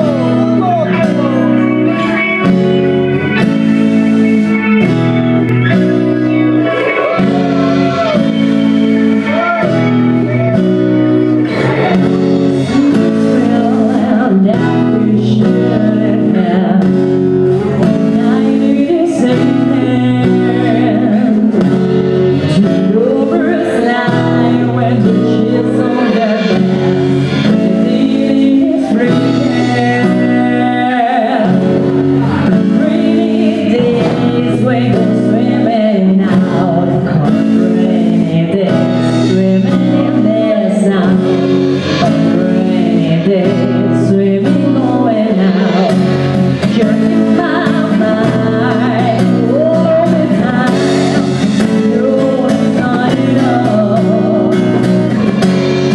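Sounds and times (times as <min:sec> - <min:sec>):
live band playing guitar: 0:00.0 - 0:55.9
person singing: 0:00.0 - 0:55.9.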